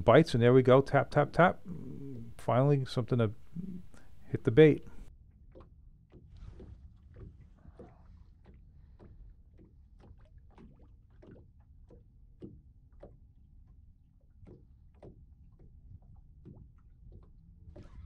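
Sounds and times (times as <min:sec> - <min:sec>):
small waves lapping against hull: 0:00.0 - 0:18.0.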